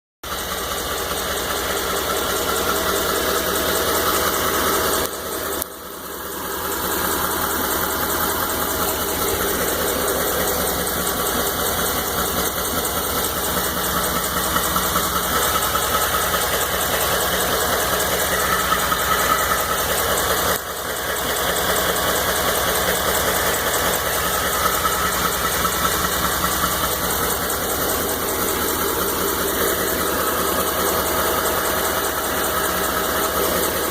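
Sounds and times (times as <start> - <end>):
engine running with a knock: 0.3 - 33.9.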